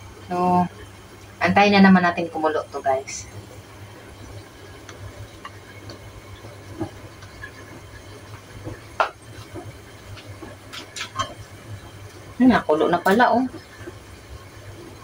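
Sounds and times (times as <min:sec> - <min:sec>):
gas burner hissing: 0:00.0 - 0:15.0.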